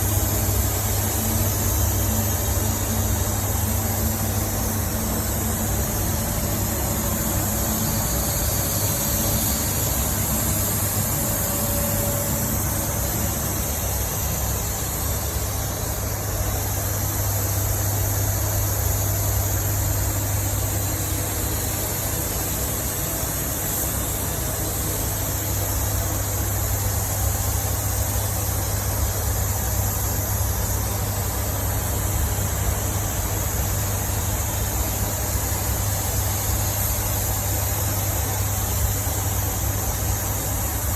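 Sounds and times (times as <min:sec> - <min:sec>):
machine hum and hiss: 0:00.0 - 0:40.9.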